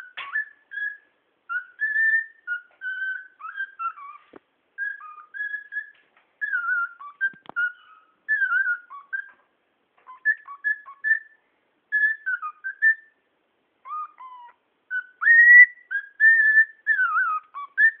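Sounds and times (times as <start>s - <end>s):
cockatiel whistling: 0.0s - 13.2s, 13.8s - 18.0s.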